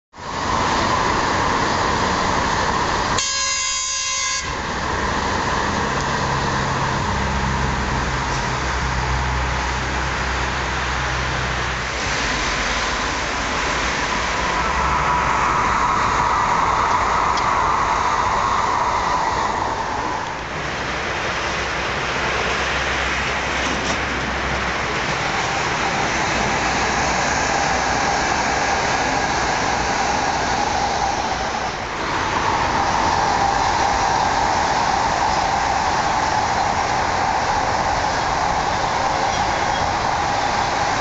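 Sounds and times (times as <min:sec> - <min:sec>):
trains rushing past: 0:00.1 - 0:41.0.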